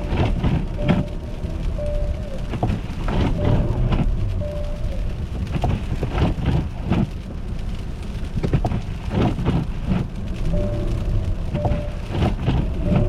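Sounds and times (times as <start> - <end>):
car driving low rumble: 0.0 - 13.0
tyres crackling through ice: 0.0 - 13.0.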